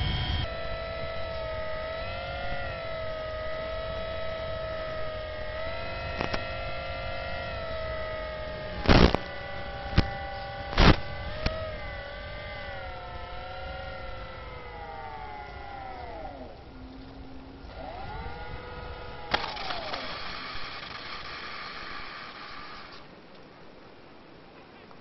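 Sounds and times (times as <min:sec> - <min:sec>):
model airplane motor whine: 0:00.0 - 0:23.2
static bursts: 0:00.0 - 0:23.4.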